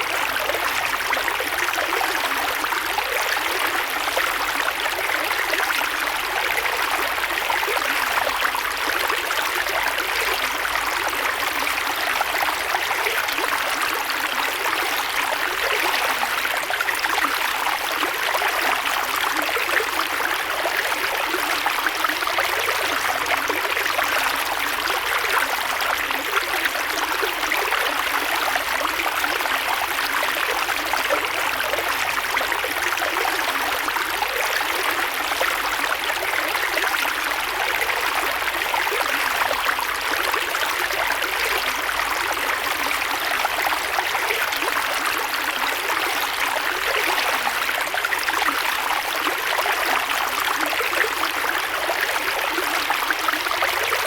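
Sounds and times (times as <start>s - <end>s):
creek water flowing over rocks: 0.0s - 54.0s.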